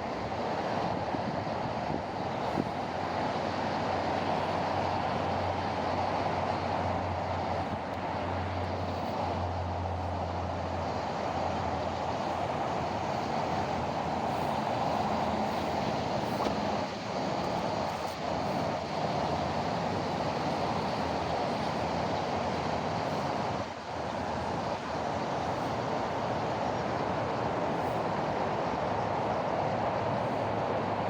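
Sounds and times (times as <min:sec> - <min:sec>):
traffic noise: 0:00.0 - 0:31.0.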